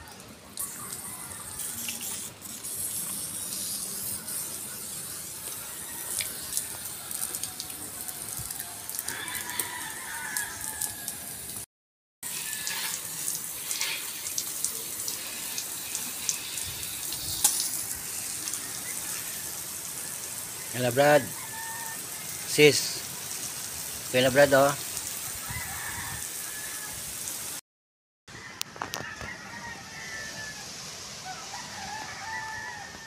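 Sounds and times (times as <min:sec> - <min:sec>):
water splashing and dripping: 0:00.0 - 0:27.6
water spraying from hose: 0:00.0 - 0:27.6.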